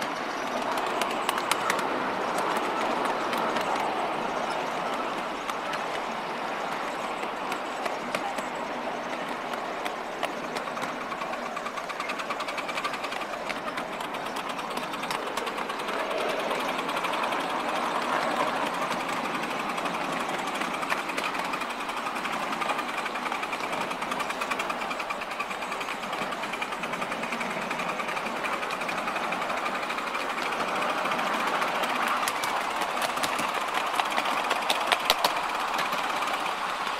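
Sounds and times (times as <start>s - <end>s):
miniature train clattering: 0.0s - 36.9s.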